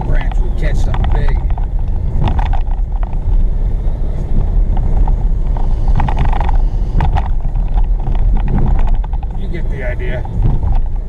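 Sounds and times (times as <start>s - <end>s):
short knocks and rattles: 0.0s - 3.5s, 4.7s - 11.0s
tyre and engine rumble: 0.0s - 11.0s.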